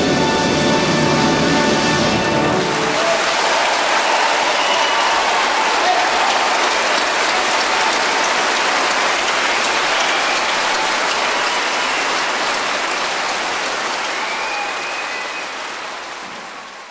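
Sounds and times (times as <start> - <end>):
audience applauding: 2.0 - 16.9.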